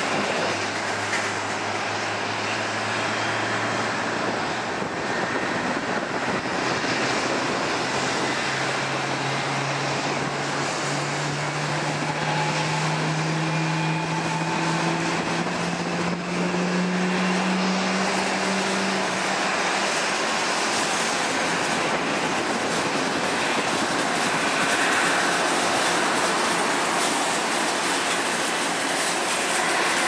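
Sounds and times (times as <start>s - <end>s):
jet aircraft noise: 0.0s - 30.0s.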